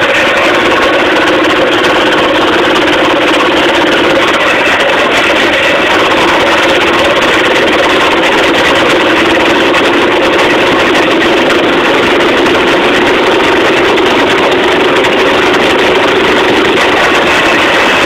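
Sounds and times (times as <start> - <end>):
minibike engine running: 0.0 - 18.0.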